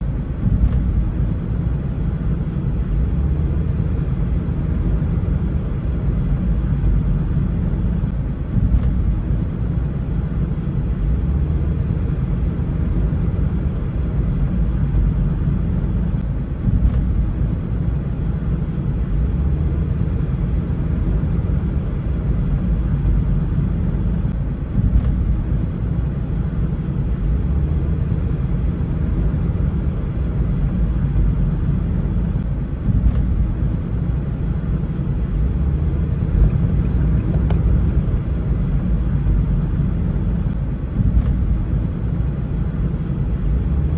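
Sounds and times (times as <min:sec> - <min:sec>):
road and wind noise: 0:00.0 - 0:43.9.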